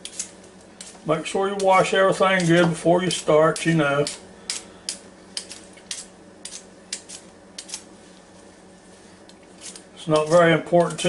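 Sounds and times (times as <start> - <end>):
potato peeler scraping potato: 0.0 - 7.9, 9.3 - 11.0.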